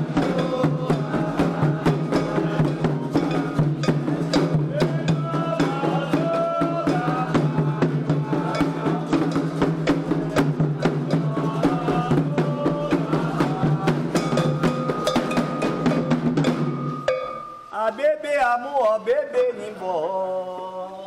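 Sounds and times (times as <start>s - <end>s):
hand drums: 0.0s - 17.9s
struck bell rhythm: 0.0s - 18.0s.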